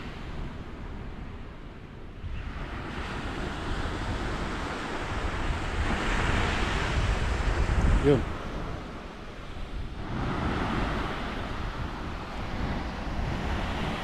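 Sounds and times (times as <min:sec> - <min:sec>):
ocean surf washing ashore: 0:00.0 - 0:14.0
wind buffeting microphone: 0:00.0 - 0:14.0.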